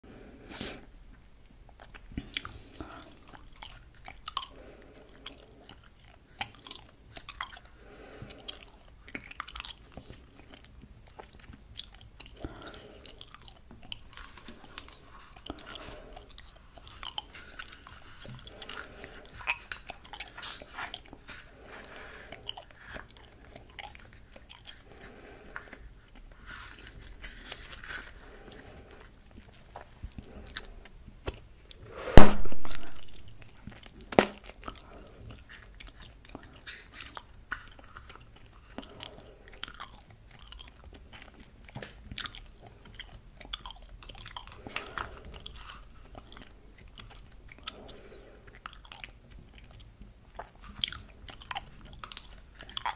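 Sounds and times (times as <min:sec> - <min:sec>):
gum chewing: 0:01.6 - 0:52.9.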